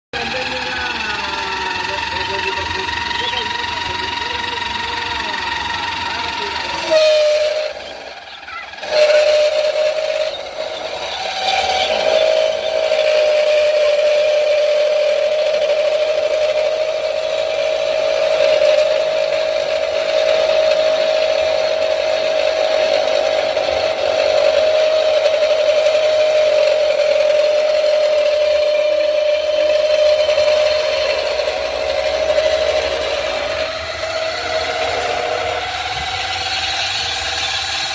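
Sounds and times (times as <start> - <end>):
lathe motor whine: 0.1 - 37.9.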